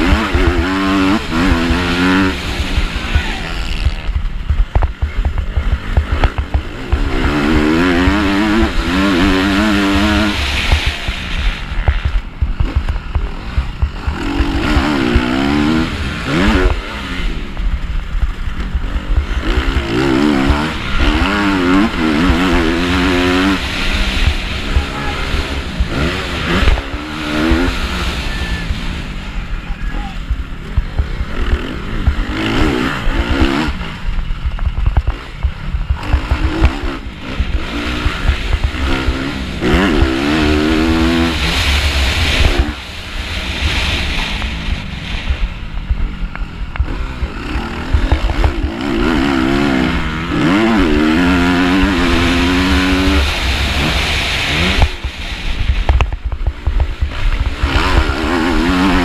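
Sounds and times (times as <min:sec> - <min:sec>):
motocross bike engine revving: 0:00.0 - 0:59.0
wind rumble on microphone: 0:00.0 - 0:59.0.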